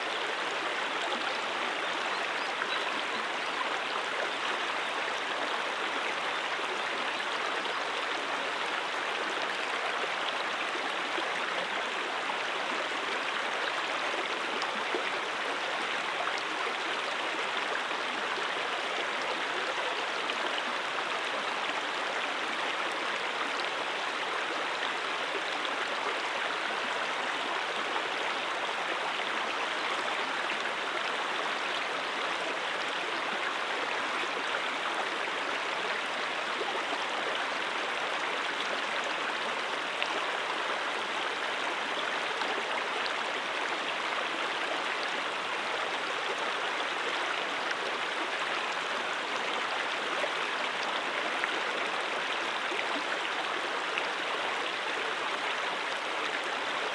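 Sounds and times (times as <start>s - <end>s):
brook flowing over rocks: 0.0s - 56.9s.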